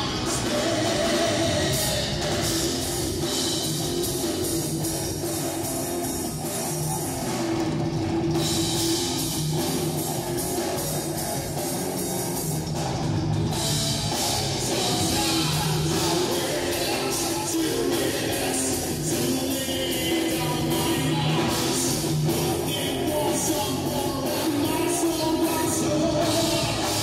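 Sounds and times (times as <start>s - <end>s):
drum kit with cymbals: 0.0s - 27.0s
electric guitars: 0.0s - 27.0s.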